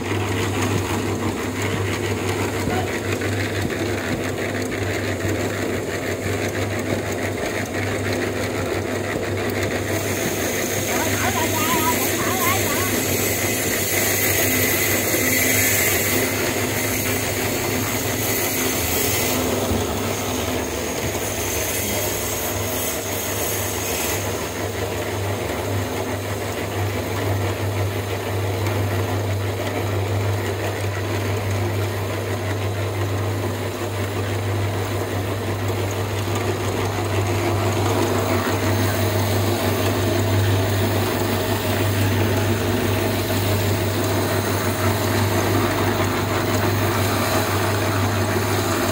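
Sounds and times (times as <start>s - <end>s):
building site noise: 0.0s - 48.9s.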